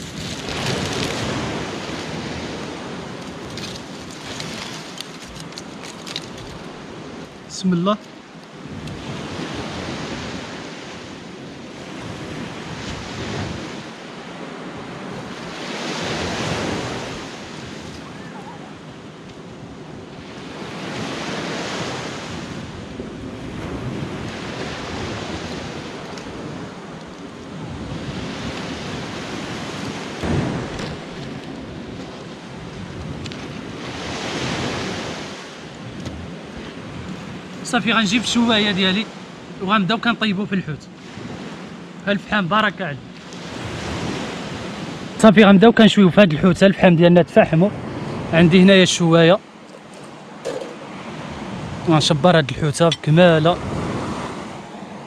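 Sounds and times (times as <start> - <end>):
wind buffeting microphone: 0.0 - 46.9, 47.6 - 55.0
sea waves washing onto shore: 0.0 - 55.0.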